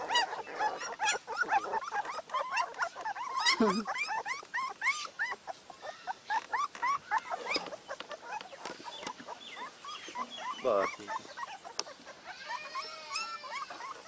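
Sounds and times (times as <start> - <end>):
puppies whimpering and squealing: 0.0 - 14.0
puppy whining: 0.0 - 14.0.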